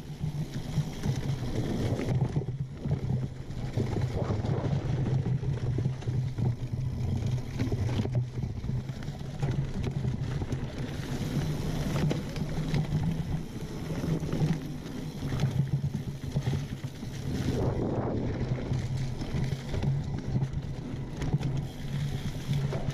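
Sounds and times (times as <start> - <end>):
bike clicks and rattles: 0.0 - 22.9
bike tyres rolling over leafy dirt: 0.0 - 22.9.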